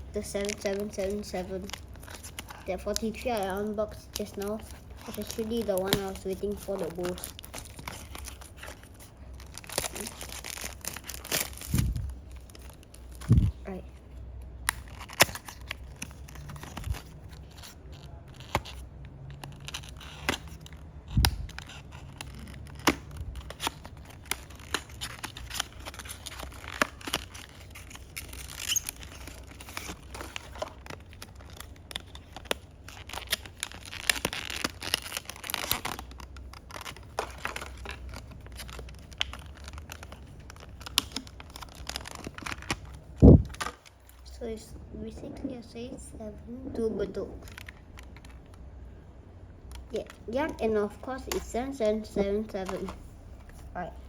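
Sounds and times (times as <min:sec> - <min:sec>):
packaging rustling: 0:00.2 - 0:44.2, 0:47.4 - 0:48.7, 0:49.7 - 0:54.0
packaging tearing and crinkling: 0:00.4 - 0:13.6, 0:14.5 - 0:44.1, 0:47.4 - 0:48.6.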